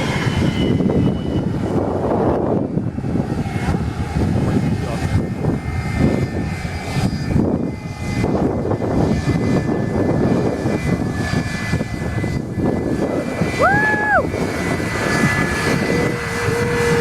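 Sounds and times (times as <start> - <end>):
airplane engines roaring: 0.0 - 17.0.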